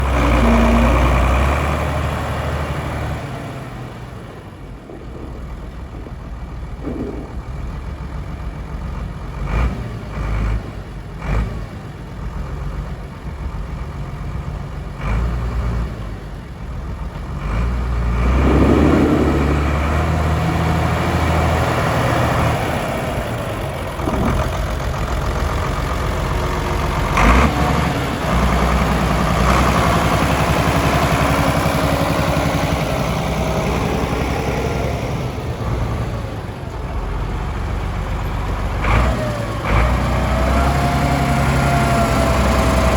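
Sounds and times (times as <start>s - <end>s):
tractor diesel engine running: 0.0s - 9.5s, 16.2s - 42.9s.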